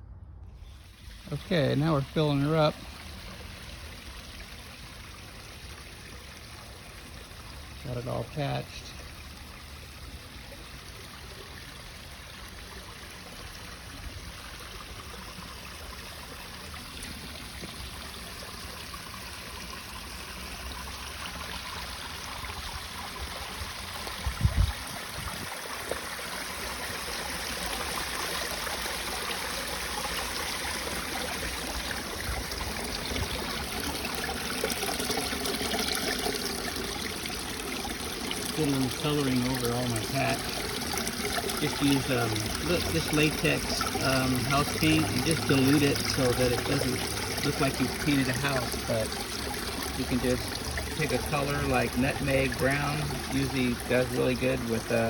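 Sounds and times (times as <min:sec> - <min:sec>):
water trickling into pond: 0:00.2 - 0:55.0.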